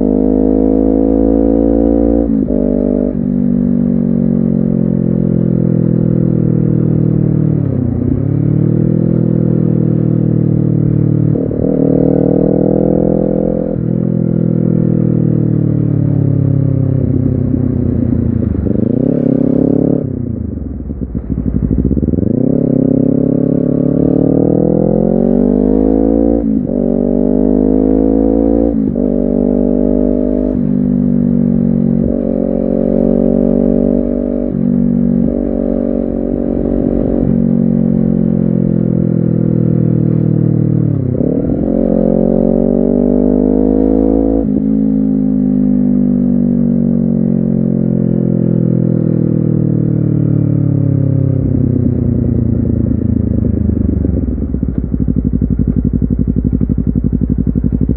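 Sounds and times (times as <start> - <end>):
motorcycle engine revving through gears: 0.0 - 57.9.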